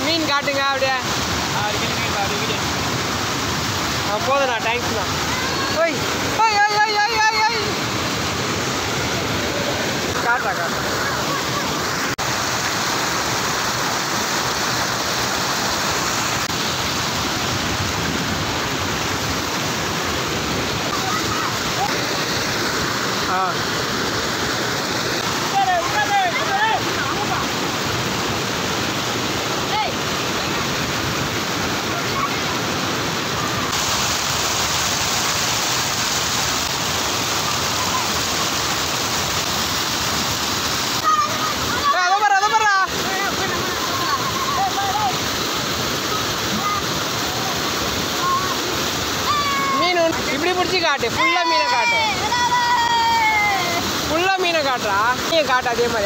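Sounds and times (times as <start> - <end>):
water rushing over weir: 0.0 - 56.0.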